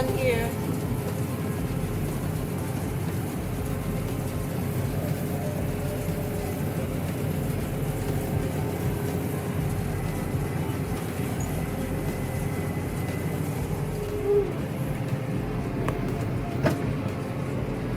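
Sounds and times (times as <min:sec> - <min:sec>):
thin even whine: 0:00.0 - 0:17.9
tractor and baler running: 0:00.0 - 0:17.9.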